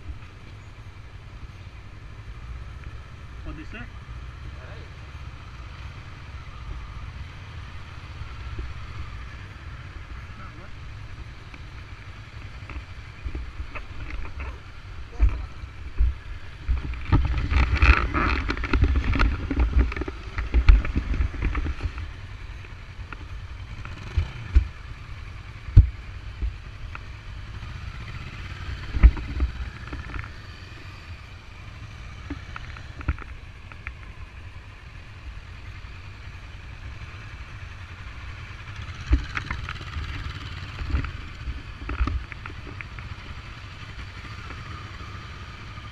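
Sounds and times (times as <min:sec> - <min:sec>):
motorcycle engine rumbling: 0:00.0 - 0:45.9.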